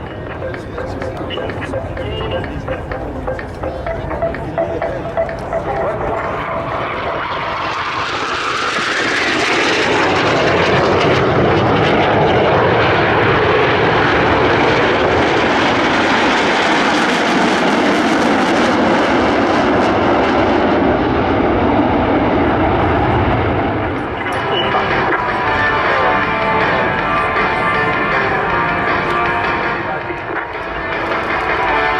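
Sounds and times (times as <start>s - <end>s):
aircraft engine flying past: 0.0s - 31.9s.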